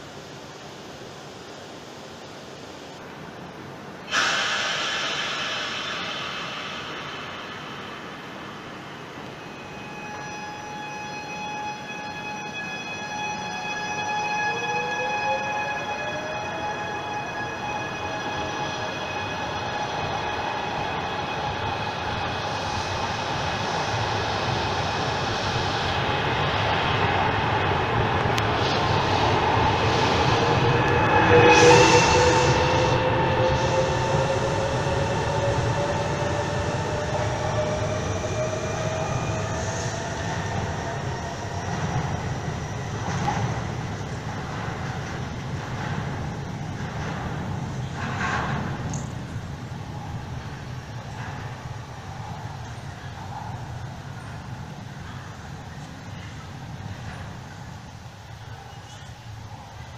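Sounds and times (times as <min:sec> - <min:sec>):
train electrical whine: 0:00.0 - 0:59.9
train wheels rumbling: 0:03.2 - 0:59.9.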